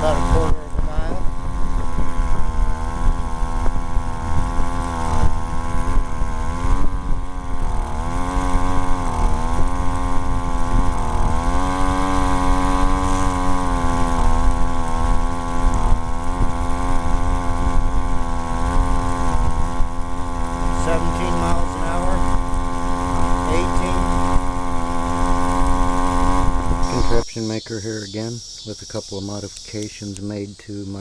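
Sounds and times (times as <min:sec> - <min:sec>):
high-pitched two-stroke engine buzz: 0:00.0 - 0:31.0.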